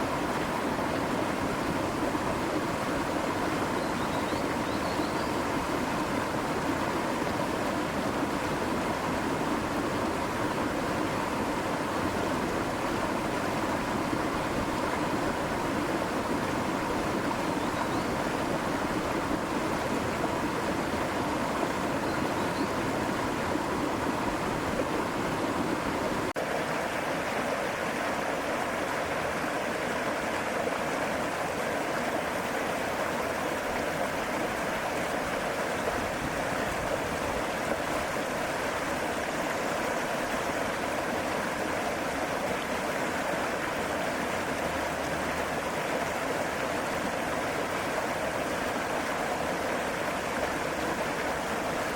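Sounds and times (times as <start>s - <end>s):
stream over small waterfall: 0.0s - 51.9s.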